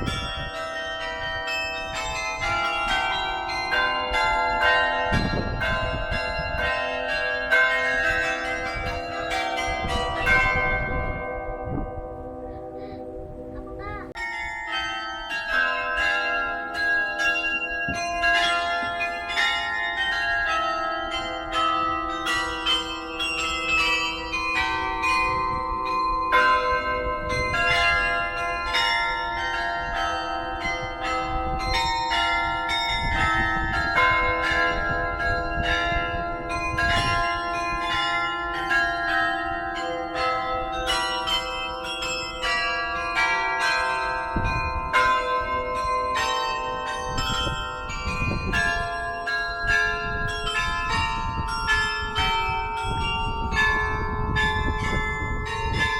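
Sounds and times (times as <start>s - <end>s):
carillon bells playing melody: 0.0s - 55.9s.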